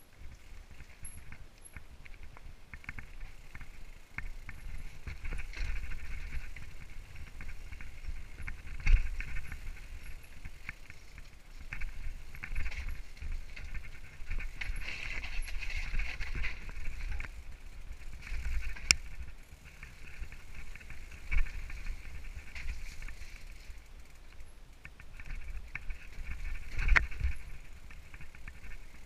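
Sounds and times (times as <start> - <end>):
bike chain and frame rattling: 0.0 - 29.0
bike tyres rumbling over rock: 0.3 - 24.1, 25.0 - 29.0.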